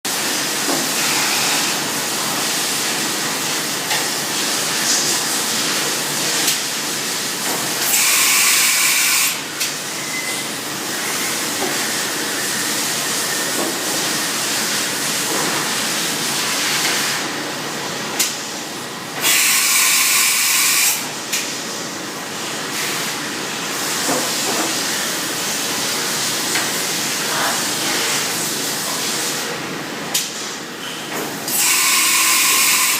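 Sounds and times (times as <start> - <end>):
machining centre running: 0.1 - 32.9.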